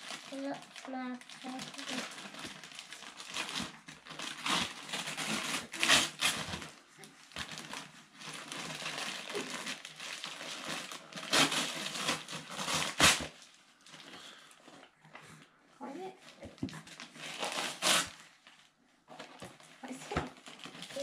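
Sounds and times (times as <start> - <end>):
tissue paper and gift bag rustling: 0.0 - 14.9, 15.8 - 21.0.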